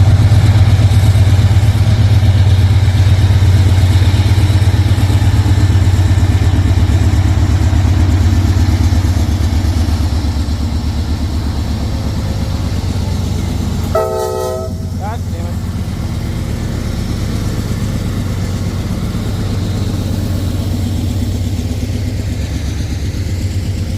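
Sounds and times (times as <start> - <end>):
diesel locomotive engine droning: 0.0 - 23.9.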